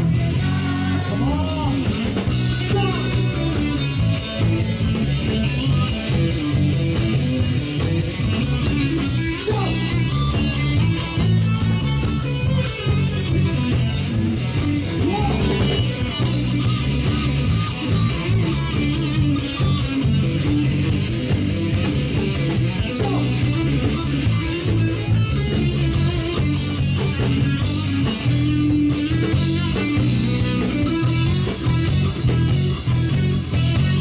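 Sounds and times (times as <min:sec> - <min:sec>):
rock band playing instrumental: 0:00.0 - 0:34.0.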